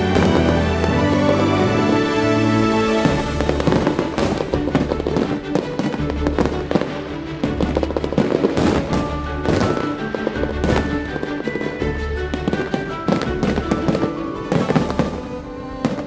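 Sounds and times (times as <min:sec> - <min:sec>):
fireworks crackling and popping: 0:02.9 - 0:16.0.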